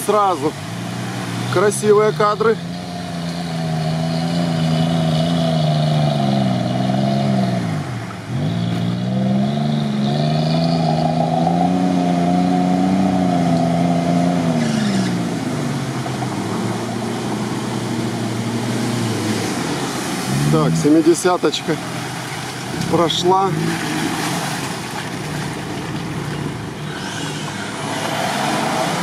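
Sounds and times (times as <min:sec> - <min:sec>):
suv engines revving: 0:00.0 - 0:29.0.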